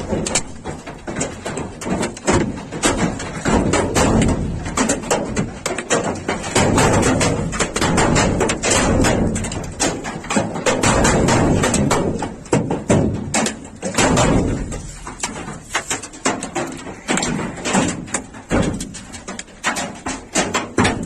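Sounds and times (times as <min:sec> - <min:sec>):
hailstones clattering on hard surfaces: 0:00.0 - 0:21.0.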